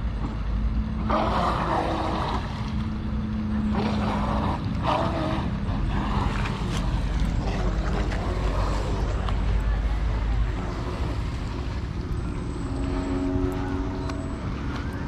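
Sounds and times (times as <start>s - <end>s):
low hum: 0.0s - 15.0s
rc speedboat motor: 0.0s - 15.0s.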